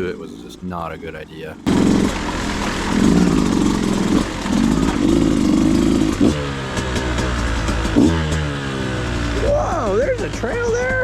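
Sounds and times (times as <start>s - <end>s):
dirt bike engine revving: 1.6s - 11.0s.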